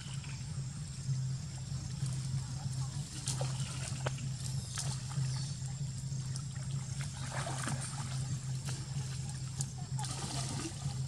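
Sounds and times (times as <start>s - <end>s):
steady low hum: 0.0s - 11.0s
splashing in muddy water: 1.9s - 11.0s.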